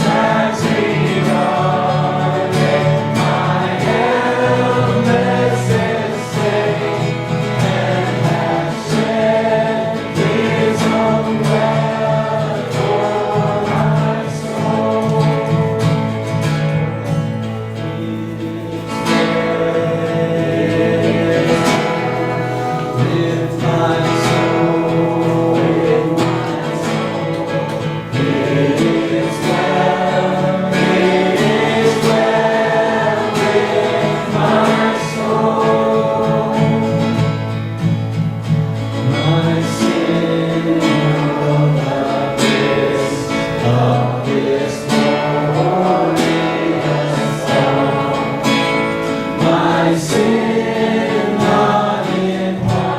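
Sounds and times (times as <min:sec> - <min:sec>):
group singing: 0:00.0 - 0:52.9
guitar accompaniment: 0:00.0 - 0:52.9.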